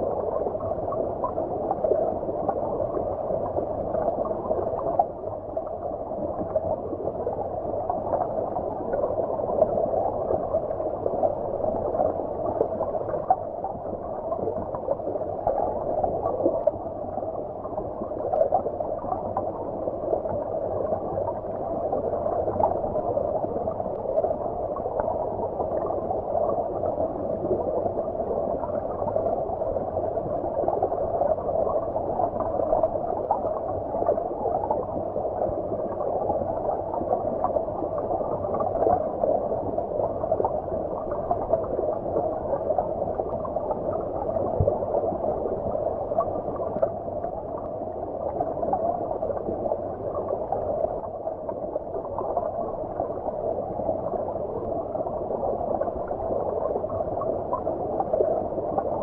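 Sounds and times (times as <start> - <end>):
muffled stream water rushing: 0.0 - 59.0.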